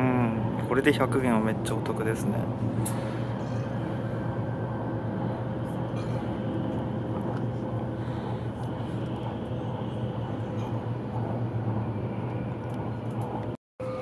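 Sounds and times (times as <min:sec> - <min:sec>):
train running at speed: 0:00.0 - 0:14.0.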